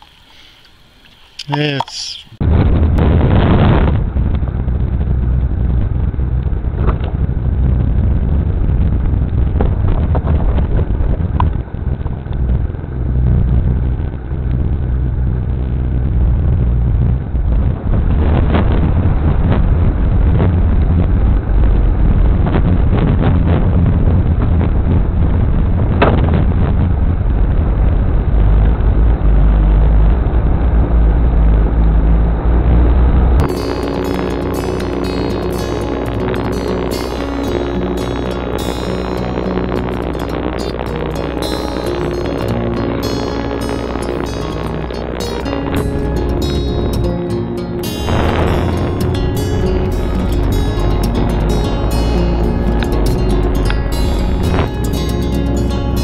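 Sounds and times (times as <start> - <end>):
vehicle engine low rumble: 0.0 - 56.0.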